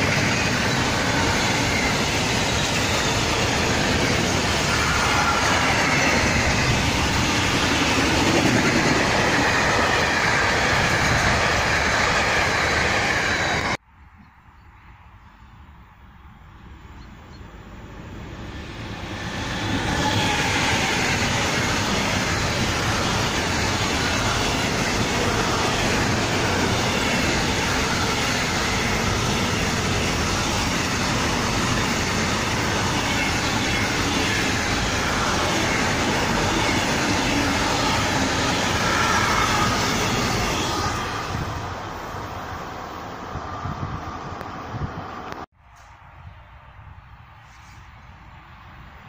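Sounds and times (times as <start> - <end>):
freight train passing: 0.0 - 13.8, 14.8 - 49.0
rattle of train wheels and wagons: 0.0 - 13.8, 17.8 - 46.0.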